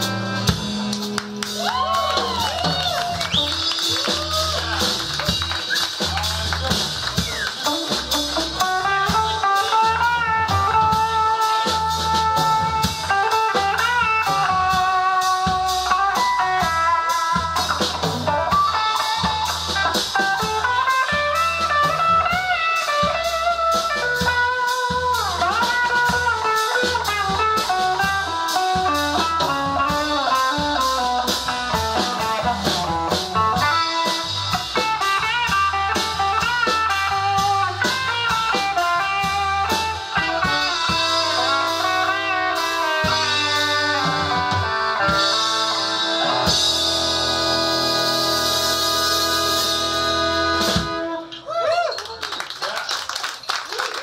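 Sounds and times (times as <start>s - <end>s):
drum kit: 0.0s - 51.8s
bass guitar: 0.0s - 51.9s
electric guitar solo: 7.1s - 52.1s.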